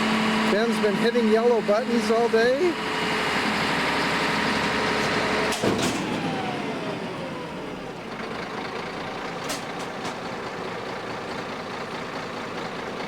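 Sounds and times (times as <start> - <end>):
garbage truck engine running: 0.0 - 13.0.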